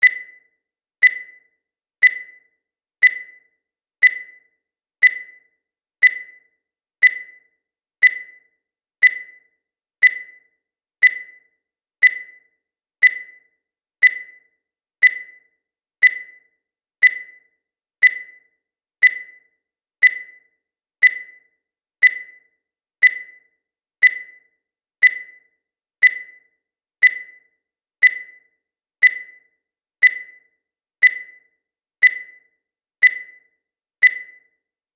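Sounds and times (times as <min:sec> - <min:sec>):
countdown timer beeping: 0:00.0 - 0:34.7.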